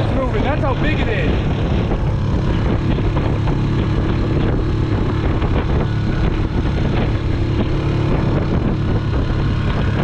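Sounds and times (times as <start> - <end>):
outboard motor droning: 0.0 - 10.0
rushing wind: 0.0 - 10.0.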